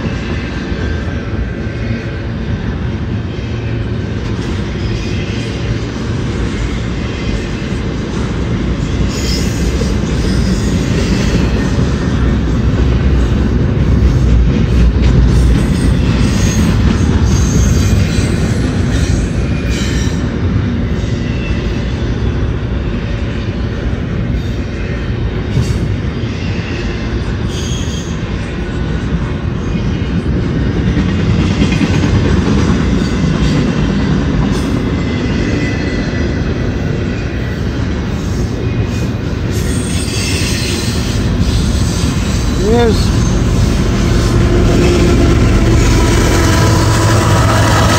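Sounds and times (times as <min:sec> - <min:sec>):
freight train wheels rumbling on rail: 0:00.0 - 0:47.9.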